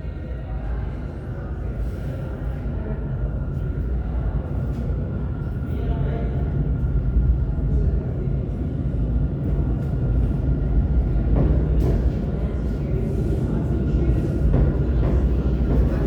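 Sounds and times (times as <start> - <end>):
train wheels rumbling on rail: 0.6 - 16.0.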